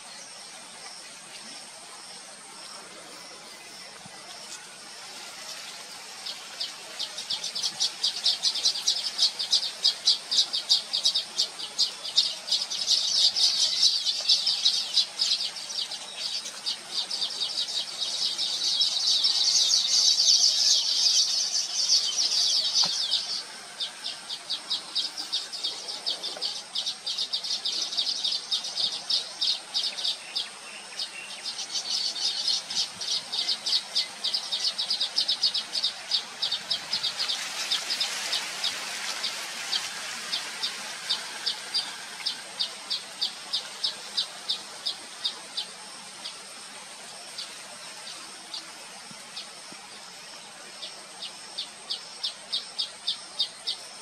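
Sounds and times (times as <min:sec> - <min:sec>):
birds chattering high chirps: 0:05.4 - 0:48.7.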